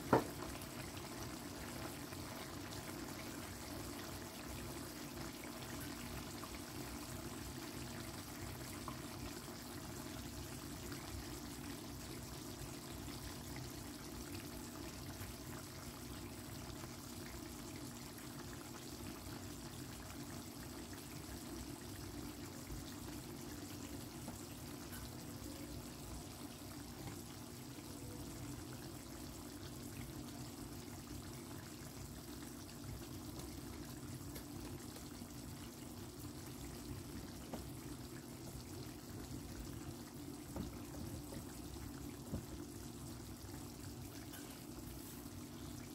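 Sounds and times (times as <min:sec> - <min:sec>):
gravy bubbling in pot: 0:00.0 - 0:45.9.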